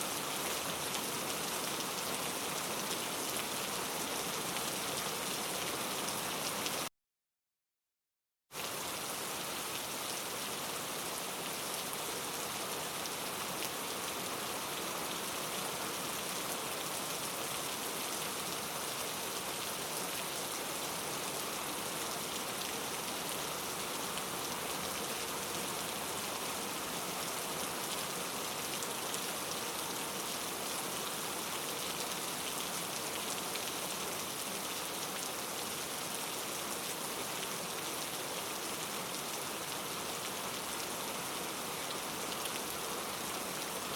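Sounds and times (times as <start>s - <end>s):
steady rain: 0.0s - 6.9s, 8.6s - 43.9s.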